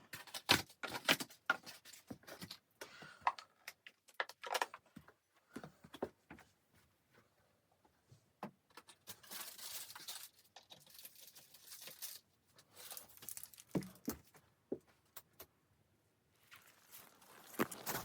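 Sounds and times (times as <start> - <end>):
rustling and crinkling: 0.0 - 15.5, 16.3 - 18.0.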